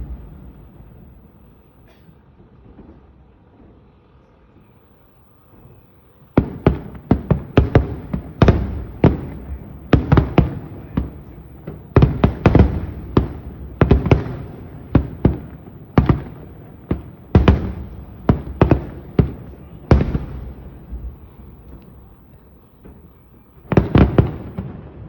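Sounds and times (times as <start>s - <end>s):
fireworks bursting: 0.0s - 2.1s, 4.6s - 25.0s.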